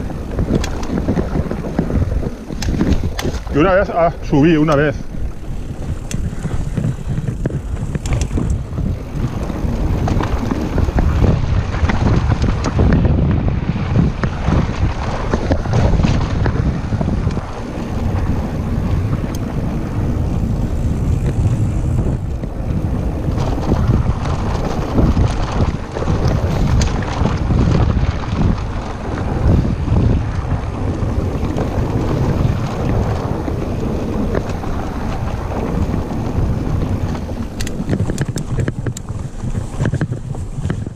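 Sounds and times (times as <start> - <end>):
bike rattling over stones: 0.0 - 40.9
bike tyres rolling on dirt trail: 0.0 - 40.9
wind buffeting microphone: 0.0 - 40.9.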